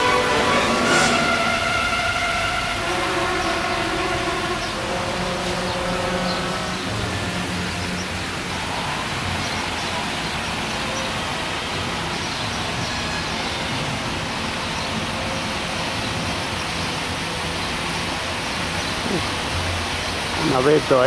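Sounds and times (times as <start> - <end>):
rushing fountain water: 0.0 - 21.0.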